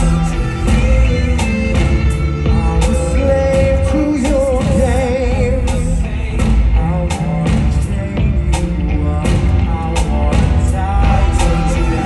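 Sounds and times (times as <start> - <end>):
loud rock music: 0.0 - 12.0.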